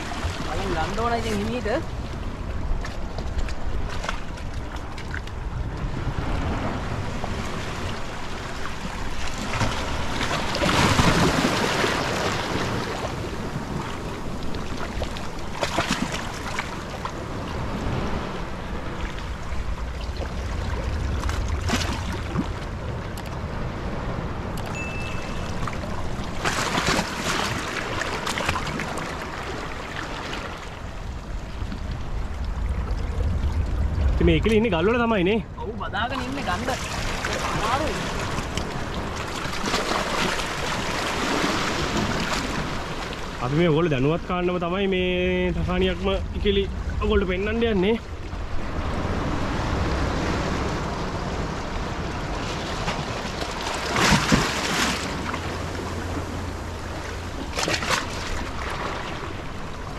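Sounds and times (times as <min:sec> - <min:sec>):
small waves washing among rocks: 0:00.0 - 0:24.4, 0:25.4 - 0:35.3, 0:35.9 - 0:59.9
wind rumbling on microphone: 0:00.0 - 0:59.9.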